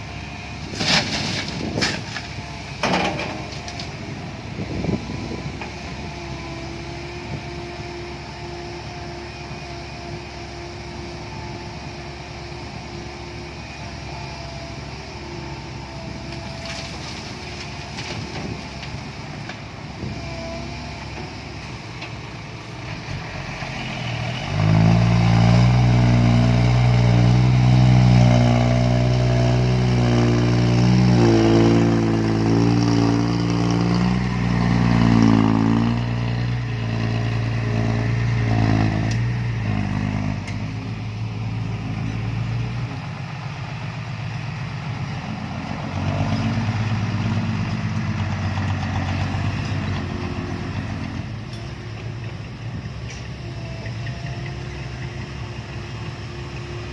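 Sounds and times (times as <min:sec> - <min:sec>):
heavy diesel engine under load: 0:00.0 - 0:56.9.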